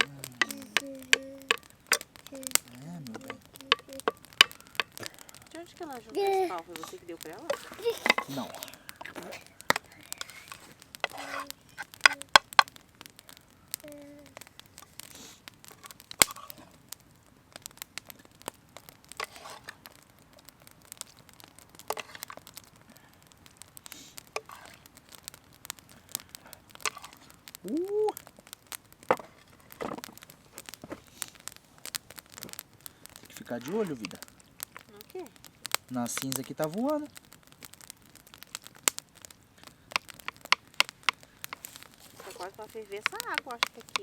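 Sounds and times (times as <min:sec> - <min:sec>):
crinkling: 0:00.0 - 0:44.0
sharp cracks and crackling: 0:00.0 - 0:44.0.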